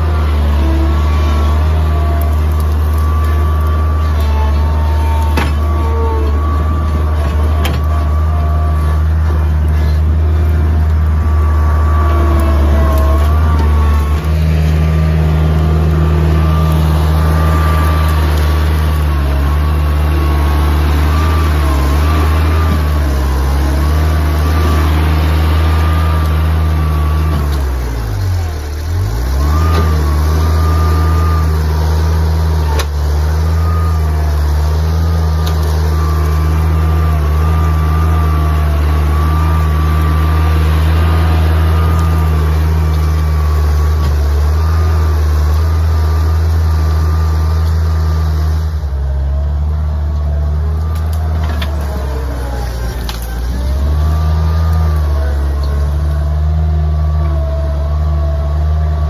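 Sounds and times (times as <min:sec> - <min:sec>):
skid steer engine running: 0:00.0 - 0:59.0.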